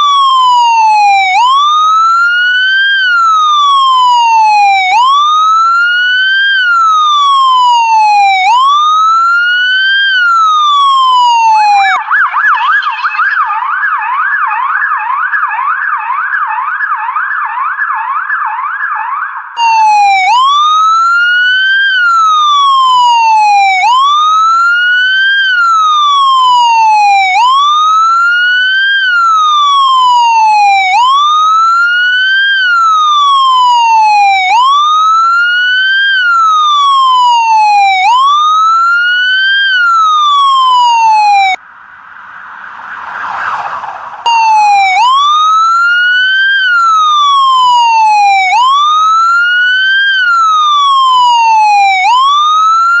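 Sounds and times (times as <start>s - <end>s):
police siren wailing and yelping: 0.0s - 41.6s, 42.2s - 53.0s.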